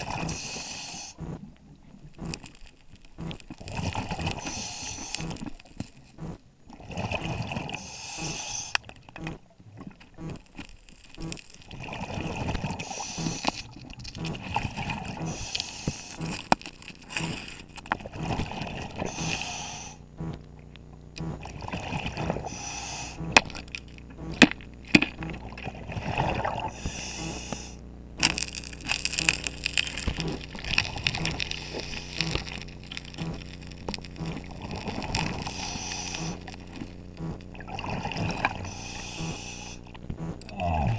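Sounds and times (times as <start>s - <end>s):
hissing regulator inhalations: 0.0s - 1.4s, 3.2s - 9.4s, 11.1s - 20.4s, 21.2s - 40.9s
bubbling exhalations: 0.0s - 2.5s, 3.2s - 10.5s, 11.1s - 20.2s, 21.3s - 23.4s, 24.1s - 40.9s.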